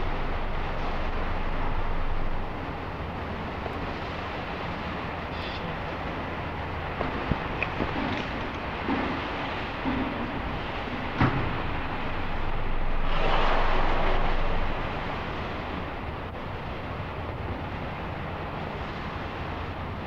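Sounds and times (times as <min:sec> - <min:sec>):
rushing noise: 0:00.0 - 0:16.4
low hum: 0:00.0 - 0:20.0.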